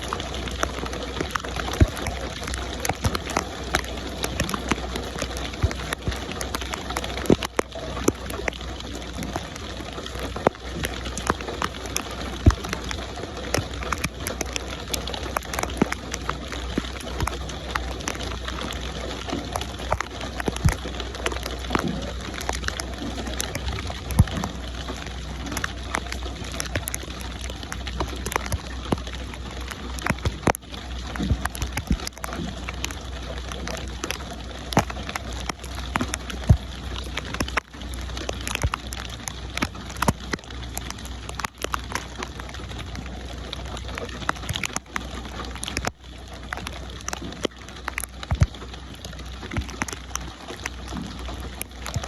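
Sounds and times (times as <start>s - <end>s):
rain drops pattering: 0.0s - 52.0s.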